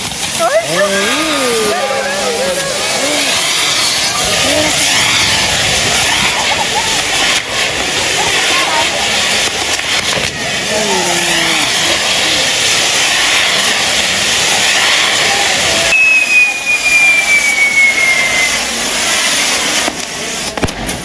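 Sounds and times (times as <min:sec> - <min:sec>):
falling firework whistle: 0:00.0 - 0:21.0
firework wheels hissing: 0:00.0 - 0:21.0
sharp firework cracks: 0:00.0 - 0:21.0.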